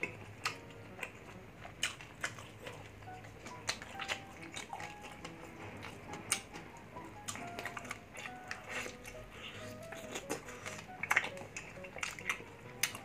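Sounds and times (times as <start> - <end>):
chewing crispy fried pork: 0.0 - 13.0.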